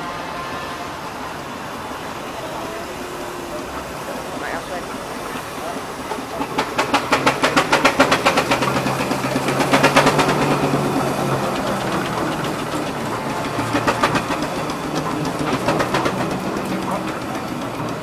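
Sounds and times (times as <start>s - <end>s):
steam traction engine beating: 0.0s - 18.0s.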